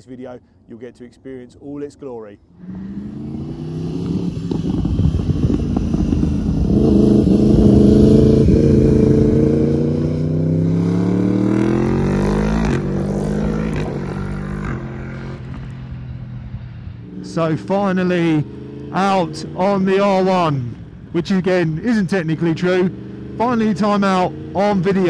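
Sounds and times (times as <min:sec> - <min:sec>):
motorcycle engine revving: 0:02.6 - 0:25.0.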